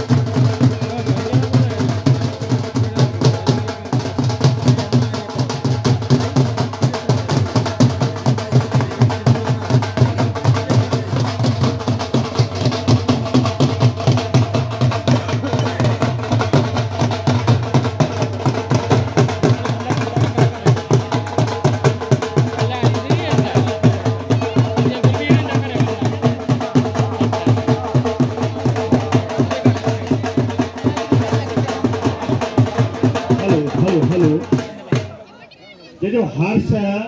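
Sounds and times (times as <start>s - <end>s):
barrel drums beating: 0.0s - 35.2s.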